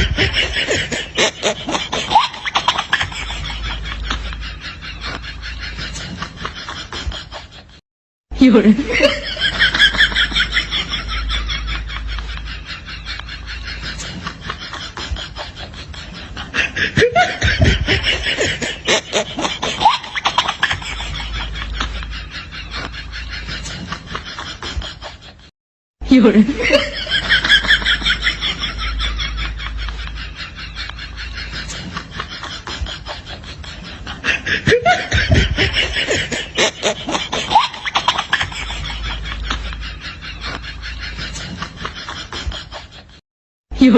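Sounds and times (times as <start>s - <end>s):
people giggling and snickering: 0.0s - 7.8s, 8.4s - 43.2s
people laughing: 0.0s - 7.8s, 8.4s - 43.2s.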